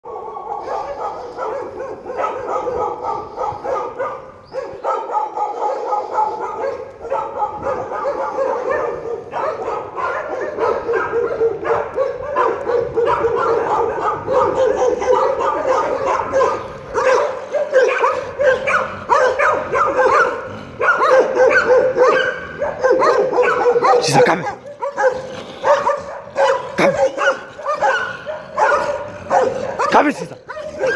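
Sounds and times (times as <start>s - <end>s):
dogs barking and yelping: 0.0s - 30.9s.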